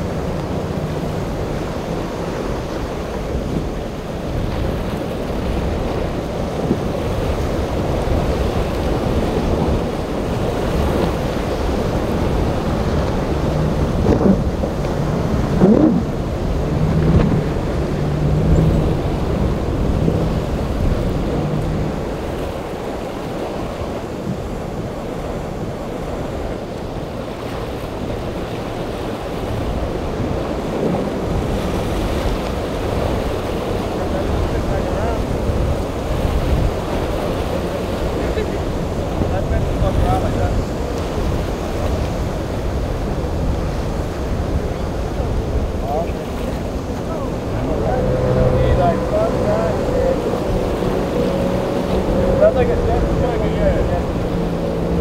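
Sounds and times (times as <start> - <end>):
outboard boat engines passing: 0.0 - 55.0
surf and breaking wakes: 0.0 - 55.0
wind on microphone: 0.0 - 55.0.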